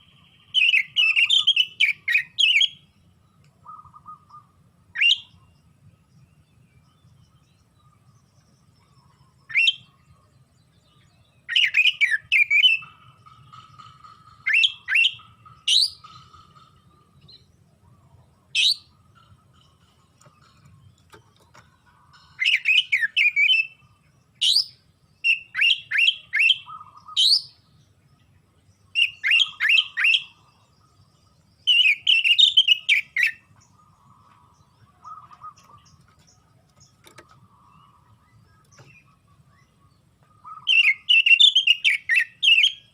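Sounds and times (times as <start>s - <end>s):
bird singing whistled song: 0.0s - 19.8s, 22.2s - 42.9s.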